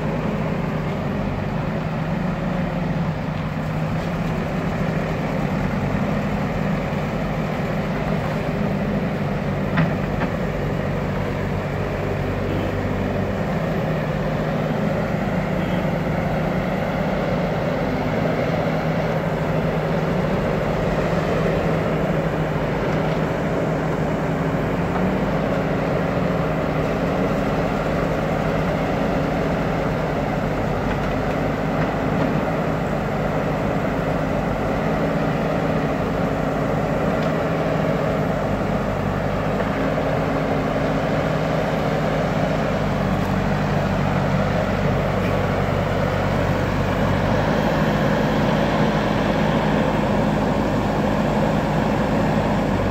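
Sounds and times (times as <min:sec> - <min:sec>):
diesel engines running: 0:00.0 - 0:52.9
loader bucket pushing soil: 0:00.0 - 0:52.9.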